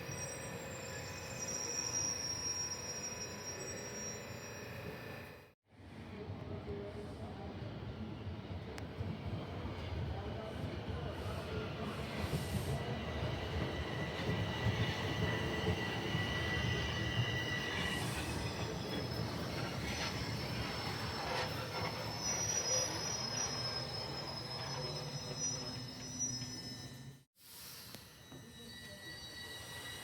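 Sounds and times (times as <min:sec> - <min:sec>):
train wheels squealing on rails: 0:00.0 - 0:05.6, 0:09.2 - 0:30.0.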